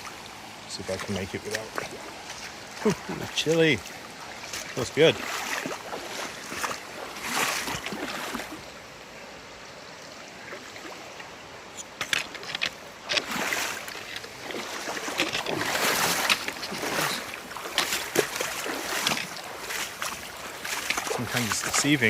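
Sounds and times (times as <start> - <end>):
feet splashing in water: 0.0 - 8.7, 10.4 - 22.0
stream flowing: 0.0 - 22.0.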